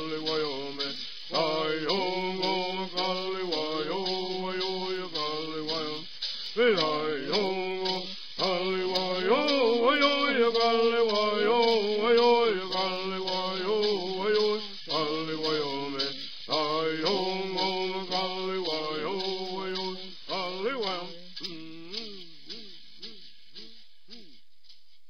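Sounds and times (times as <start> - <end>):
men singing: 0.0 - 24.2
shaken rattle beat: 0.0 - 25.0.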